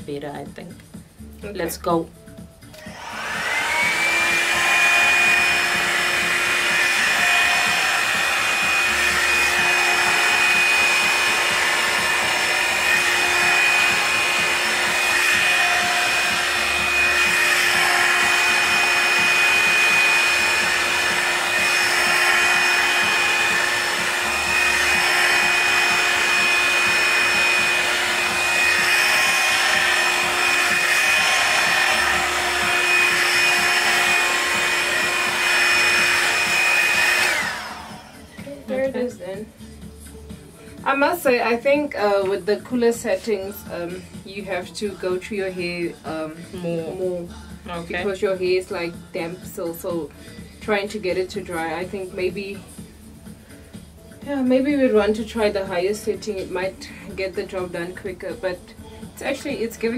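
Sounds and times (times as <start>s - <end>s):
hair dryer brush blowing: 2.8s - 39.8s, 40.6s - 59.9s.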